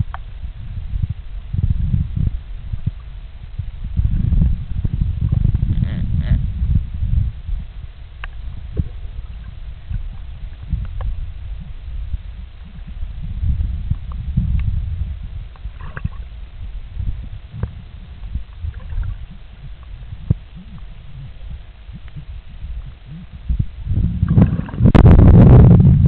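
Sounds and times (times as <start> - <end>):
underwater rumble of moving water: 0.0 - 26.0.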